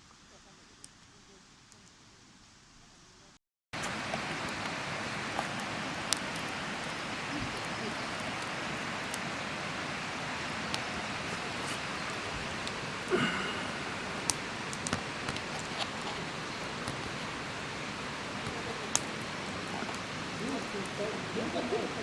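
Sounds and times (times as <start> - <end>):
campfire crackling and popping: 0.0 - 3.2, 3.8 - 22.0
fire hissing: 0.0 - 22.0.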